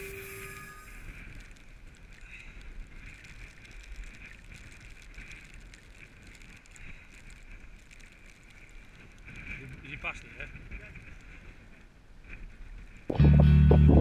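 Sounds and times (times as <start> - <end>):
gusting wind on microphone: 0.0 - 13.2
faint ticks: 0.3 - 13.1.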